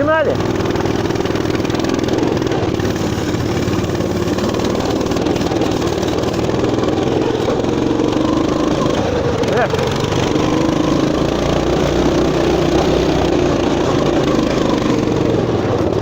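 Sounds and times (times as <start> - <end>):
motorcycle engine under throttle: 0.0 - 16.0.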